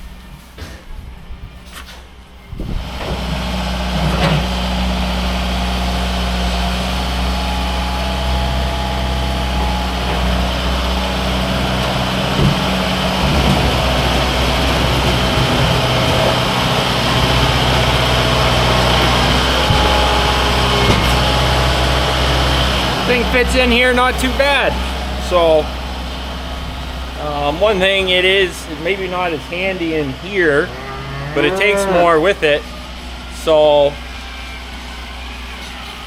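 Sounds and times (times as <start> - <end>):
tractor engine running: 2.5 - 36.0.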